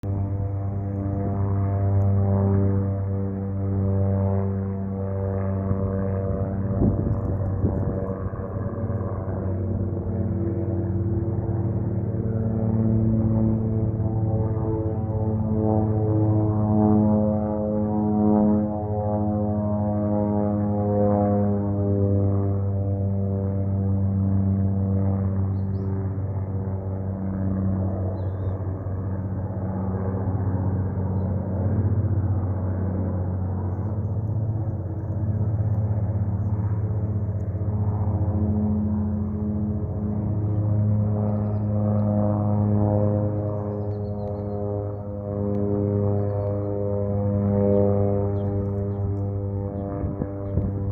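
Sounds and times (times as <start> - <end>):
propeller plane engine humming: 0.0 - 50.9.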